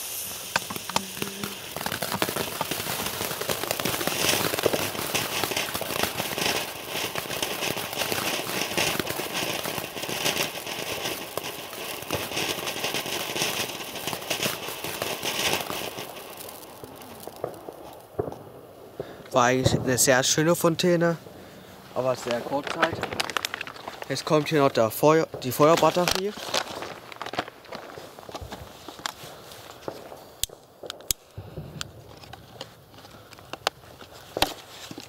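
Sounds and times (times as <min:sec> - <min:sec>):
firework fountain crackling: 0:00.0 - 0:35.0.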